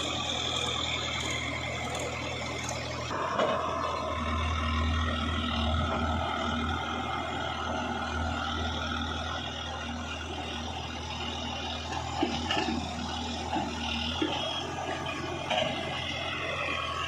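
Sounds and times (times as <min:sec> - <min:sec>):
heavy diesel engine drone: 0:00.0 - 0:17.0.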